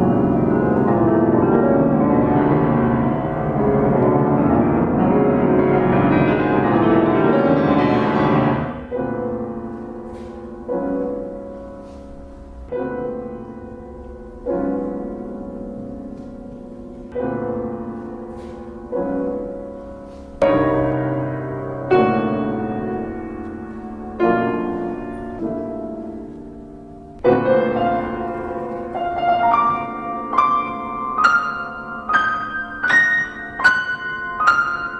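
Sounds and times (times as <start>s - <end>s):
slow solo piano piece: 0.0s - 34.9s.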